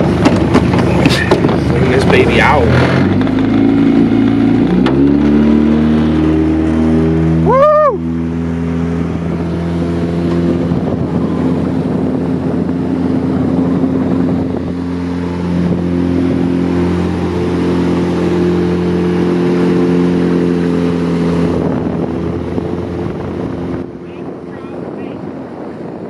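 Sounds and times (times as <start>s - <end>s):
outboard motor running: 0.0s - 26.0s
water noise: 0.0s - 26.0s
wind: 0.0s - 26.0s.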